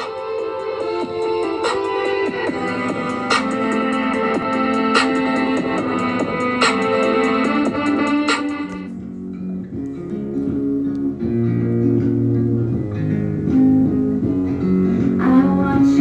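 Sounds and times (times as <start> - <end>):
plucked guitar music: 0.0 - 16.0
bass line: 1.0 - 16.0.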